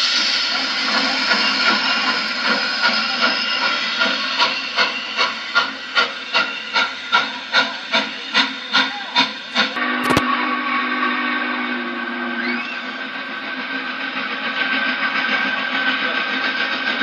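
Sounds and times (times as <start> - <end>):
steam hissing: 0.0 - 17.0
steam locomotive exhaust chuffs: 0.0 - 17.0.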